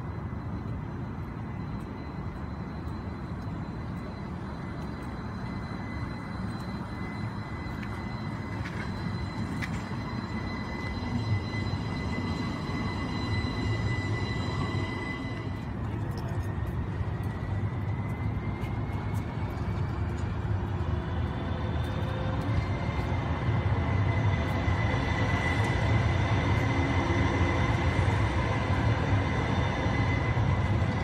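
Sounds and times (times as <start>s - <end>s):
high electric whine: 0.0s - 31.0s
tram rumbling on rails: 0.0s - 31.0s.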